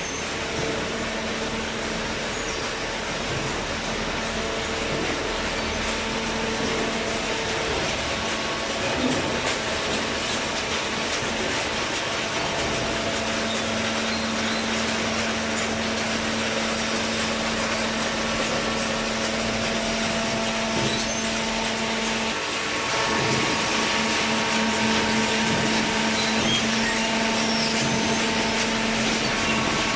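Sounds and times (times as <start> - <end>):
hydraulic baler running: 0.0 - 29.9.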